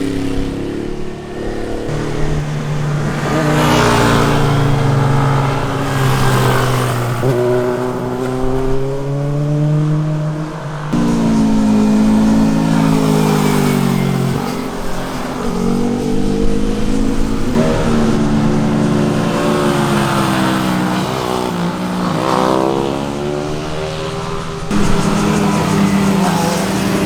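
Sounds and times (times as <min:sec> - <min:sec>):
sport motorcycle engines revving: 0:00.0 - 0:27.0.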